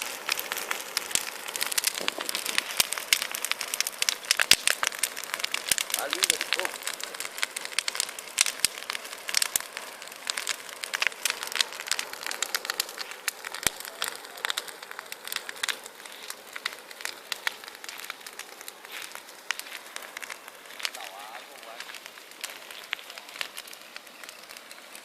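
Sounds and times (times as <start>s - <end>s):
bonfire crackling and hissing: 0.0s - 25.0s.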